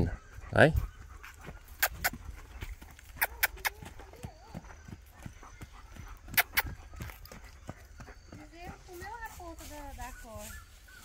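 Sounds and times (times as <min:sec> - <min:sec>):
hooves clopping: 0:00.0 - 0:11.0.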